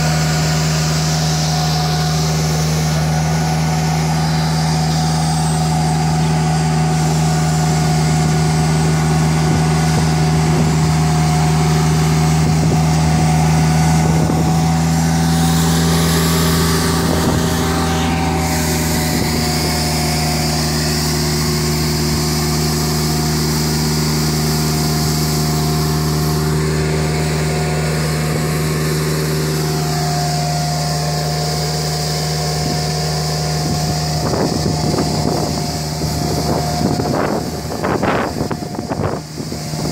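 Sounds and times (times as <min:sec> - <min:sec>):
high whine: 0:00.0 - 0:39.9
sweeper engine drone: 0:00.0 - 0:39.9.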